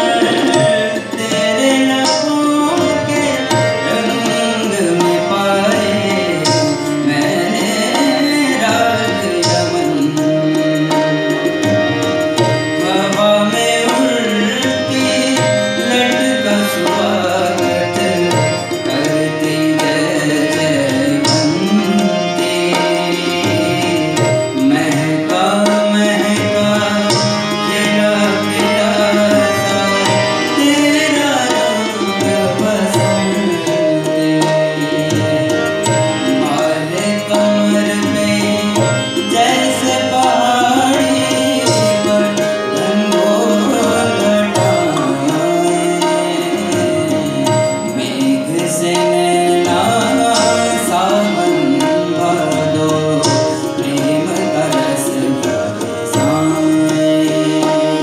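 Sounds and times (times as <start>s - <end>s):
harmonium: 0.0s - 58.0s
keyboard: 0.0s - 58.0s
man singing: 0.0s - 58.0s
tabla playing rhythm: 0.0s - 58.0s.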